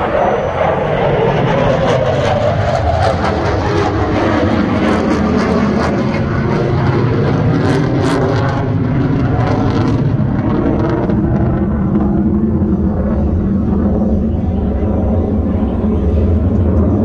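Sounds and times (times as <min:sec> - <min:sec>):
airplane engine rumble overhead: 0:00.0 - 0:17.0.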